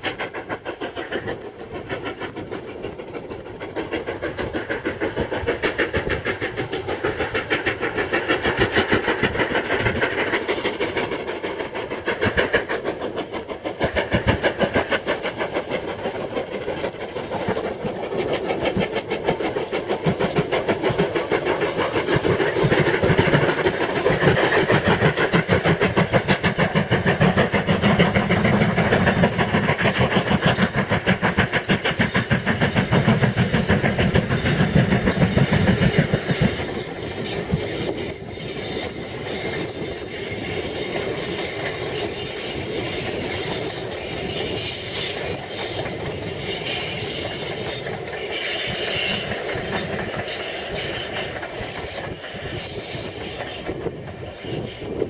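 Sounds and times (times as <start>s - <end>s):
steam locomotive exhaust beats: 0.0s - 55.0s
train wheels clickety-clack on rails: 0.0s - 55.0s.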